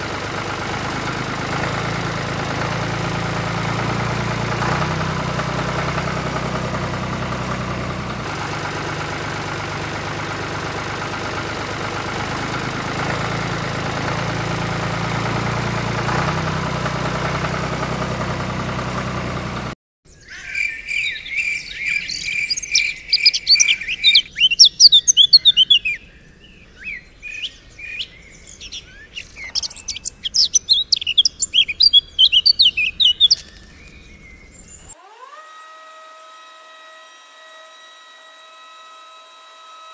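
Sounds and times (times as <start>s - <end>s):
engine running: 0.0s - 19.8s, 21.4s - 25.8s, 27.3s - 39.9s
birds chirping: 0.0s - 35.0s.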